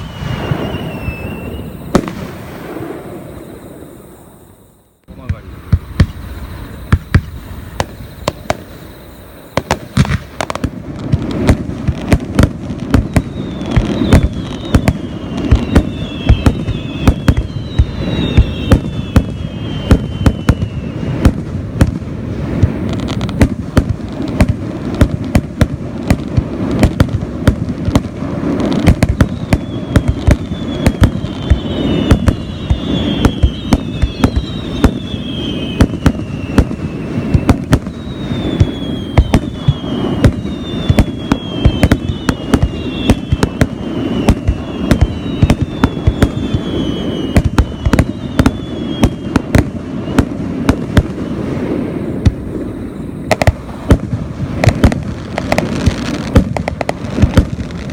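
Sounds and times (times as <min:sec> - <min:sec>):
falling firework whistles: 0:00.0 - 0:57.9
fireworks bangs and crackling: 0:00.0 - 0:57.9.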